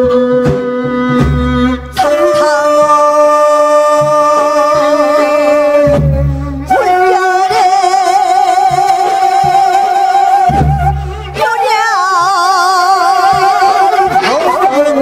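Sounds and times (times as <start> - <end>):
instrumental accompaniment: 0.0 - 15.0
woman singing with vibrato: 0.0 - 15.0.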